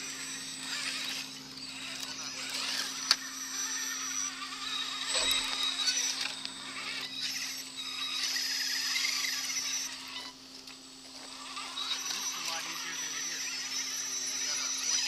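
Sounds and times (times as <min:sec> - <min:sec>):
electric motor and gear whine: 0:00.0 - 0:15.0.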